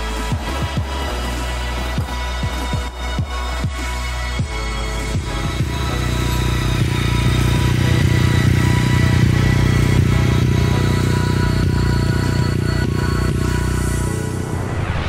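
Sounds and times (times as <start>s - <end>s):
motorcycle engine running: 0.0s - 14.5s
background music: 0.0s - 15.0s.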